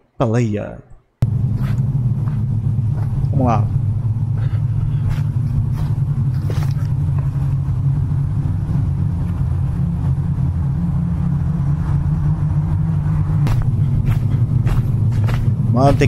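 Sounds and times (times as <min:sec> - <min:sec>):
steady low rumble: 0:01.2 - 0:16.0.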